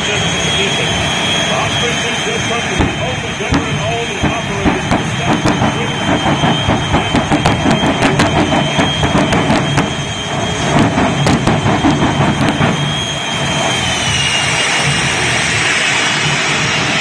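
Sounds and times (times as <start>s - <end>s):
jet engines roaring with whine: 0.0s - 17.0s.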